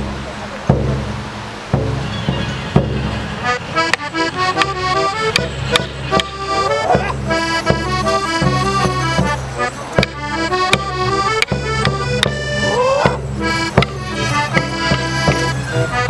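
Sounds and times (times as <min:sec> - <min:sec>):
sharp knocks keeping a beat: 0:00.0 - 0:16.0
accordion playing folk dance tune: 0:01.9 - 0:16.0.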